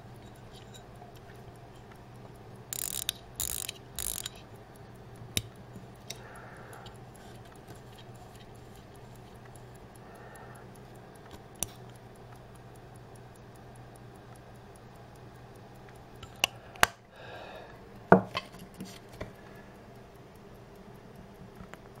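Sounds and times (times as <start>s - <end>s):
pocket watch ticking: 0.0s - 18.4s, 19.1s - 22.0s.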